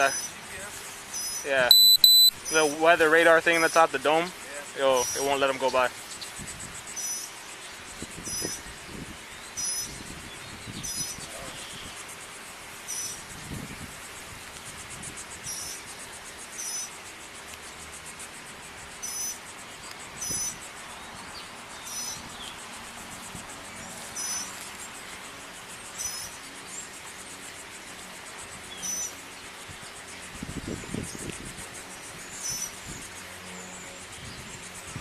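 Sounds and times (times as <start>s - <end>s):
insects buzzing trill: 0.0s - 35.0s
short high insect chirps: 0.0s - 35.0s.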